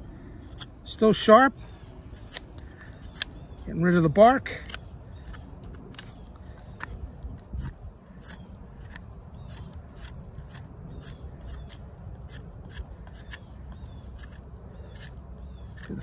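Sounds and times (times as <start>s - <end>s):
knife scraping wood: 1.7s - 3.5s, 4.5s - 16.0s.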